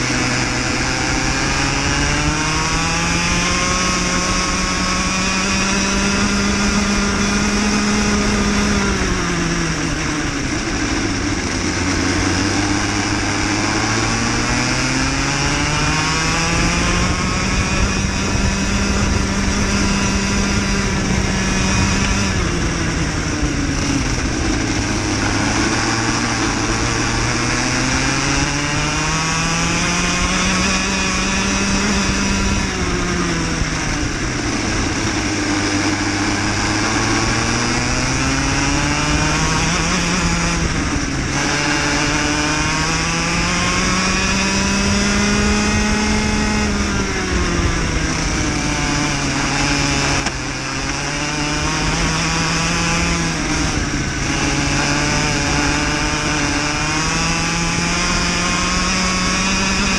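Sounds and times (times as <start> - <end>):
kart engine revving: 0.0 - 59.9
rush of noise: 0.0 - 59.9.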